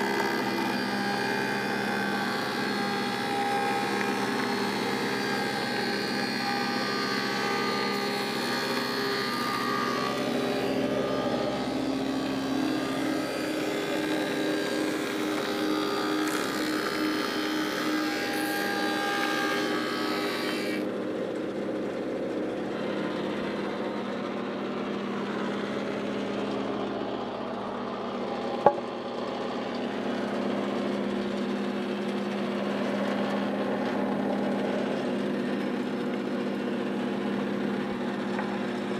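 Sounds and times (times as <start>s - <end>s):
thickness planer running: 0.0s - 38.9s.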